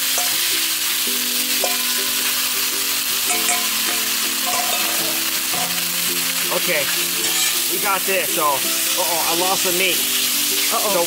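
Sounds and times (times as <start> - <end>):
beef sizzling on a griddle: 0.0 - 11.0.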